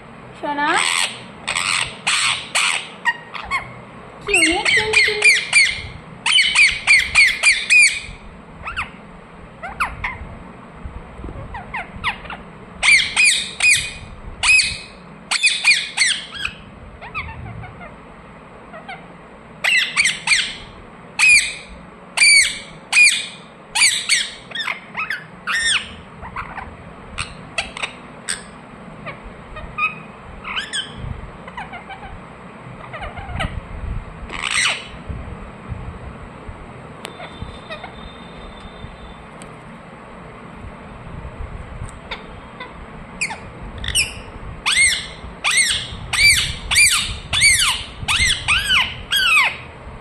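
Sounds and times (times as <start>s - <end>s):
parakeet calling: 0.6s - 10.3s, 11.4s - 18.0s, 18.6s - 33.6s, 34.3s - 35.0s, 37.1s - 39.3s, 42.0s - 49.8s.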